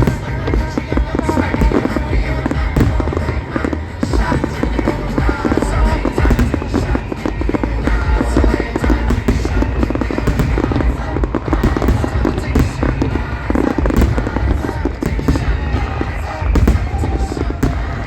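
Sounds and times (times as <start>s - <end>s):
fireworks bursting and crackling: 0.0s - 18.0s
loud music: 0.0s - 18.0s.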